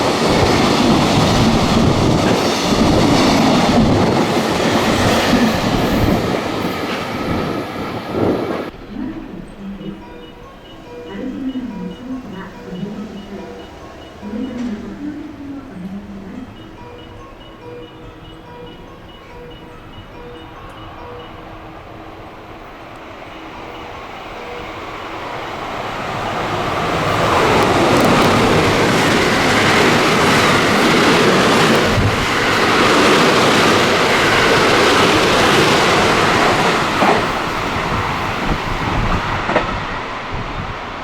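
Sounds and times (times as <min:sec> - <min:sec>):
train passing at speed: 0:00.0 - 0:41.0.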